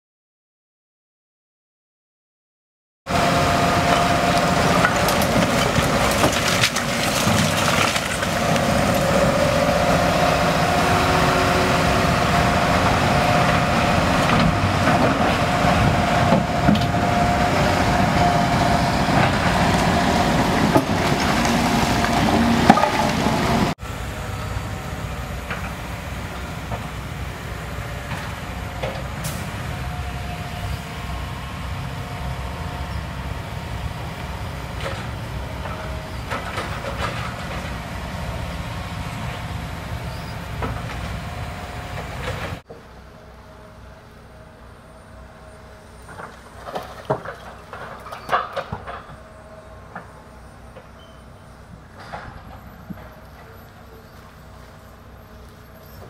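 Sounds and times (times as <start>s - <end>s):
heavy diesel machinery running: 3.1s - 56.0s.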